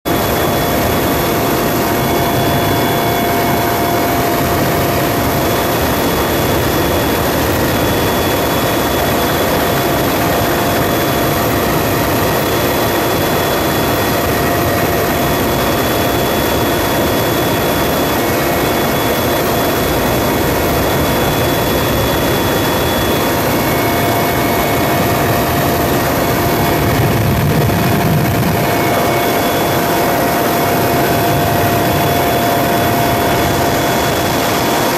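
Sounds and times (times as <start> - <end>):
helicopter running: 0.1 - 34.9.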